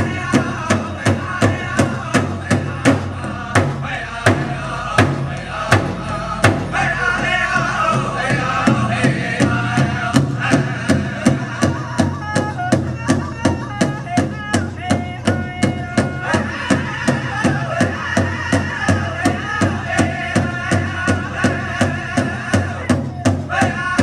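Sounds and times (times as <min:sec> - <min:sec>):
large drum beating fast: 0:00.0 - 0:24.0
singers chanting: 0:00.0 - 0:24.0.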